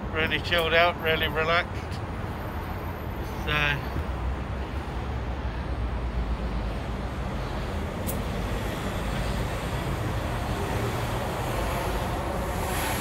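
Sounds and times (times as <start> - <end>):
passing cars and vans rumbling: 0.0 - 13.0.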